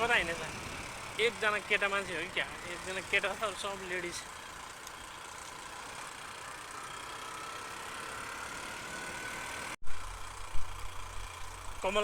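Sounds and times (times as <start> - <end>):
motorcycle engine running: 0.0 - 8.8, 9.5 - 12.0.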